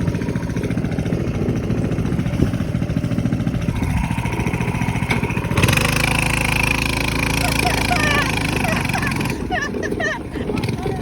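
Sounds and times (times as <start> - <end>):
small engine puttering: 0.0 - 11.0.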